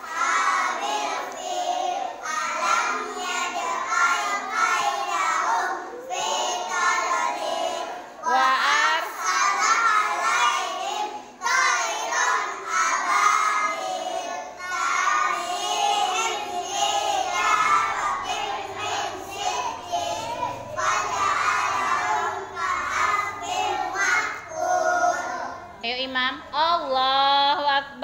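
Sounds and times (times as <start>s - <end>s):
children chanting prayer verses: 0.0s - 25.8s.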